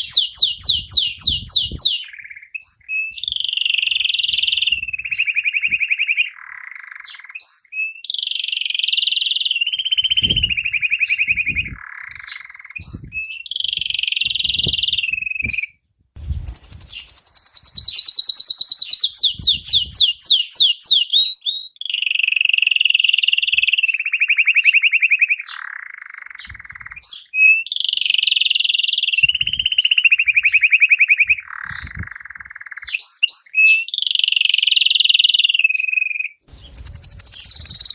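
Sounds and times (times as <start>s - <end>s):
canary singing trills: 0.0s - 15.8s, 16.5s - 37.9s.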